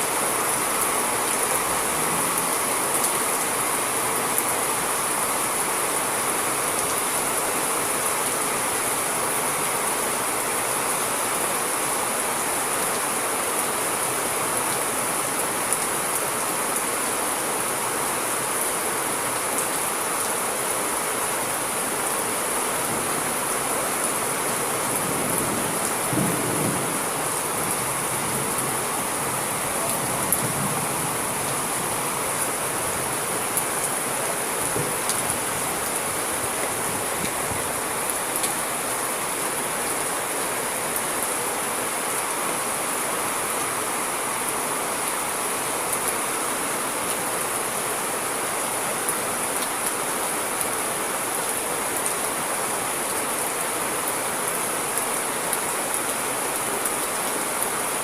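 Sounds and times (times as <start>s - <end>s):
heavy rain hiss: 0.0s - 58.0s.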